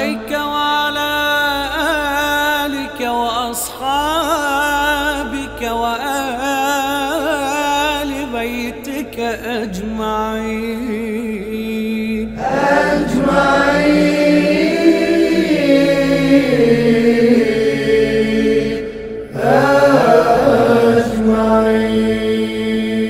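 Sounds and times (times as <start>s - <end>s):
man chanting: 0.0s - 23.0s.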